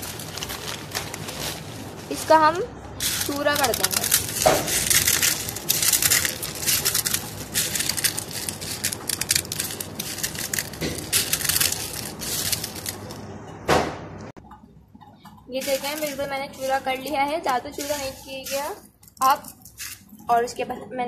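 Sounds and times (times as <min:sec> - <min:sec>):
cornflakes crushed by hand: 0:00.0 - 0:02.2, 0:03.0 - 0:13.2, 0:15.6 - 0:20.1.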